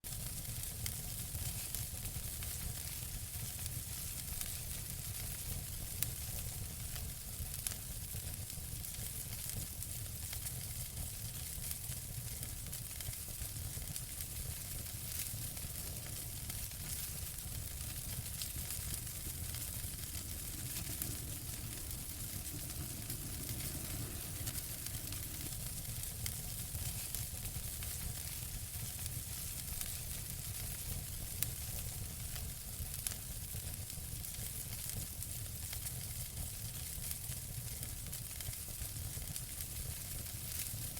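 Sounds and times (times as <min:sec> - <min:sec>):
fire crackling and popping: 0:00.1 - 0:40.9.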